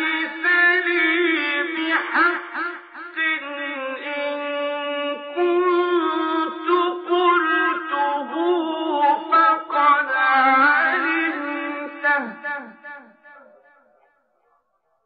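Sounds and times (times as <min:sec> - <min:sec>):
man reciting melodically: 0:00.0 - 0:13.8.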